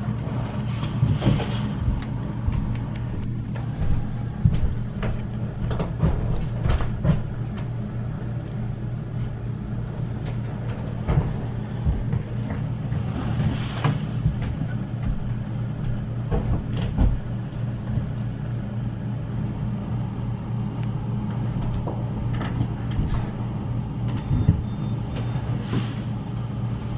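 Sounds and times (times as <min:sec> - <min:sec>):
engine droning: 0:00.0 - 0:26.9.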